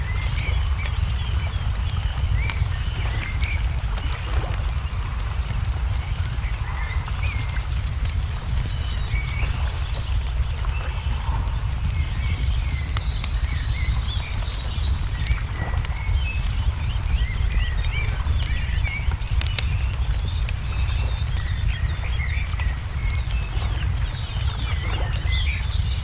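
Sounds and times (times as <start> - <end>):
songbirds chirping: 0.0 - 26.0
wood fire crackling: 0.0 - 26.0.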